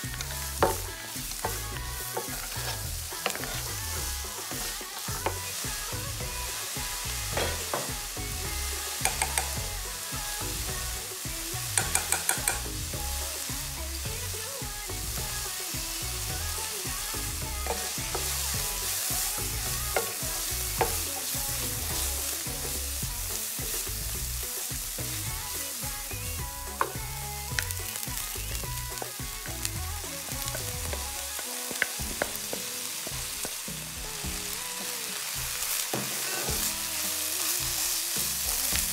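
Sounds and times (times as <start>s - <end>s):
vegetables sizzling in hot oil: 0.0s - 38.9s.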